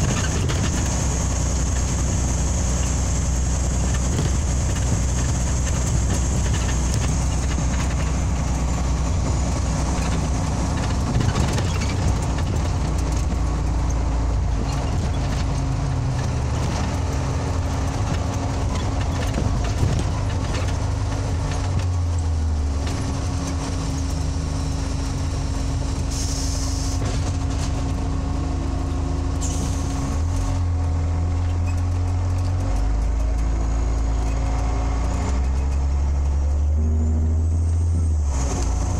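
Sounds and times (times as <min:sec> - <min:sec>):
bus diesel engine drone: 0:00.0 - 0:38.9
road and body noise: 0:00.0 - 0:38.9.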